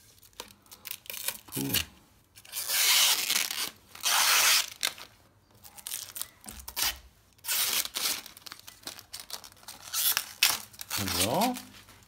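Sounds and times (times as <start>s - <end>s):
plastic film crinkling: 0.0s - 12.0s
plastic film ripping off: 0.2s - 5.1s, 5.8s - 11.7s.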